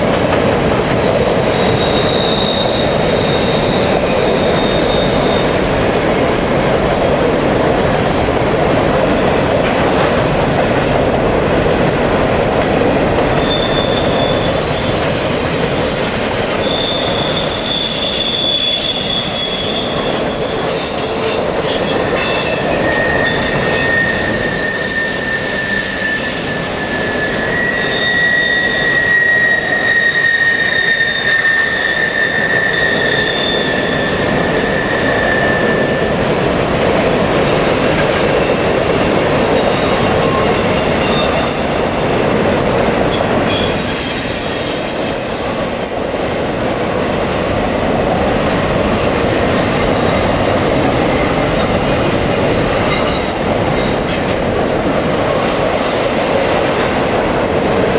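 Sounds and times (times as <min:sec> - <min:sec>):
train cars rumbling: 0:00.0 - 0:57.9
wheels squealing on rails: 0:01.2 - 0:10.8, 0:13.3 - 0:56.8.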